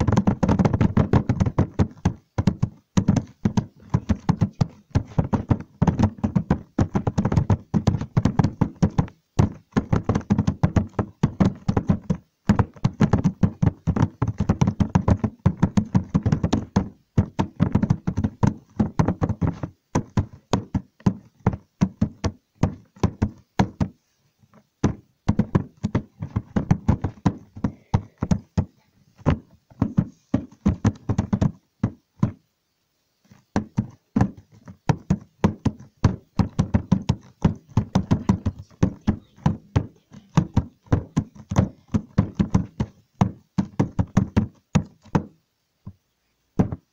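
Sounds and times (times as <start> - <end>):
rapid irregular knocks and taps: 0.0 - 32.4, 33.2 - 46.0, 46.6 - 46.9.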